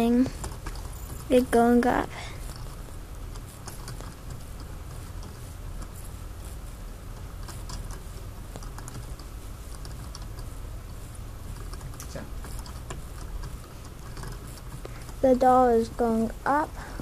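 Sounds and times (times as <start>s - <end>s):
desk toy spinning with light clicks: 0.0s - 16.4s
steady low hum: 0.0s - 17.0s.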